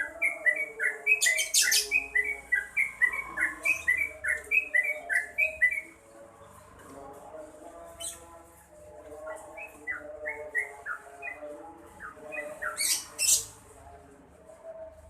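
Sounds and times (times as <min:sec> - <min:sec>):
bulbul singing: 0:00.0 - 0:06.2, 0:07.6 - 0:13.6.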